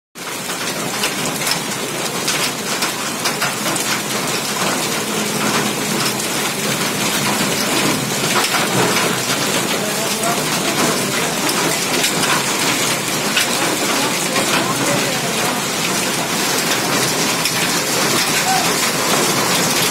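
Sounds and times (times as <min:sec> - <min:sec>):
hailstones clicking: 0:00.2 - 0:19.9
heavy rain hissing: 0:00.2 - 0:19.9.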